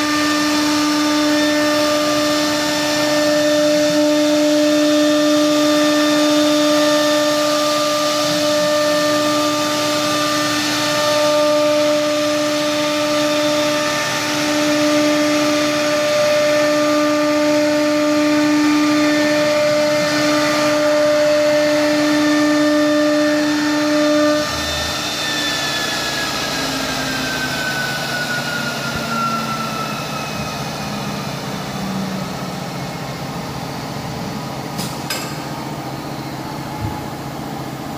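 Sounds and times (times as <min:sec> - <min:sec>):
router spindles whining: 0:00.0 - 0:34.8.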